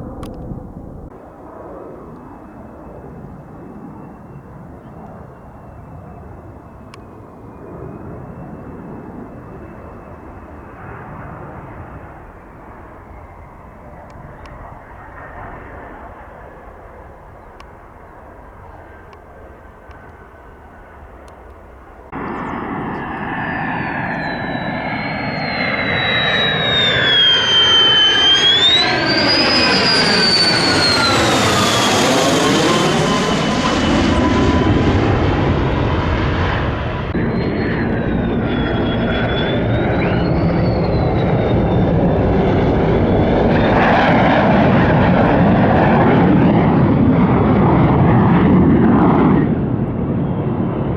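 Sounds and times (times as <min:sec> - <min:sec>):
jet fighter passing with whine: 0:00.0 - 0:50.9.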